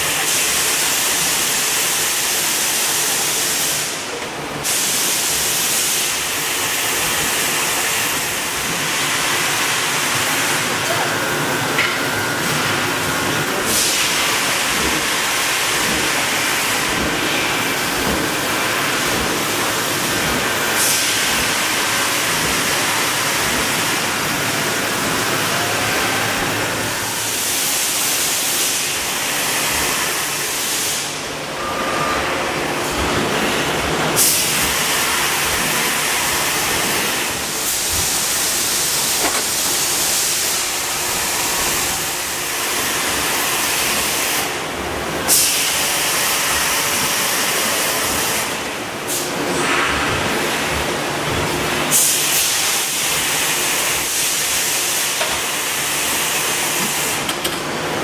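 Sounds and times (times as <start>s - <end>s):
factory machinery din: 0.0s - 58.0s.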